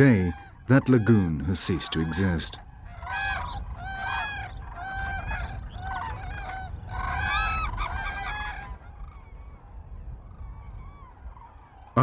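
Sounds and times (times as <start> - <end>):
cranes calling: 0.0 - 12.0.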